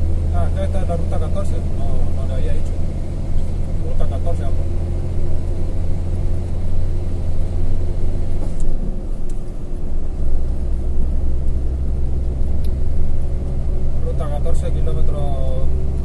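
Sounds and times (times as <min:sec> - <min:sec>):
road noise: 0:00.0 - 0:16.0
truck engine droning: 0:00.0 - 0:16.0.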